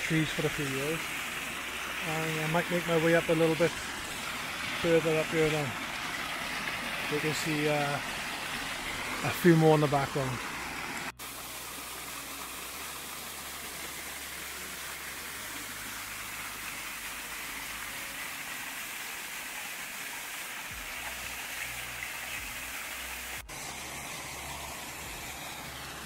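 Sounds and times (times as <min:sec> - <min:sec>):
small waterfall rushing: 0:00.0 - 0:26.0.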